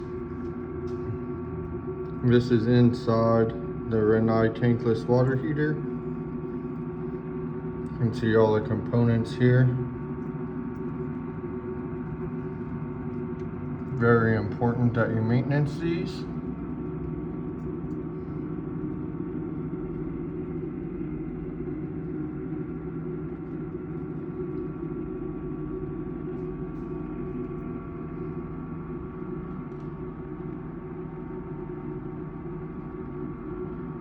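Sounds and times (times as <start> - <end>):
water heater humming: 0.0 - 34.0.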